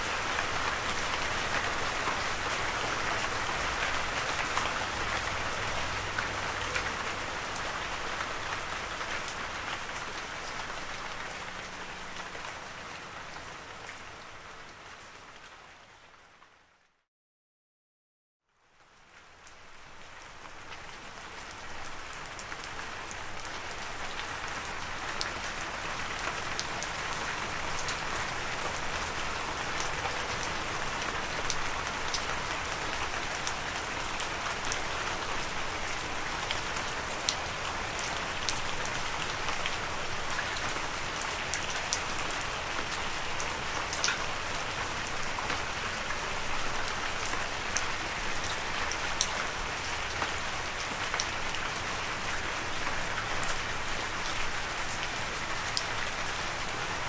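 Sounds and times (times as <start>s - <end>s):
steady rain falling: 0.0s - 16.8s, 18.5s - 57.0s.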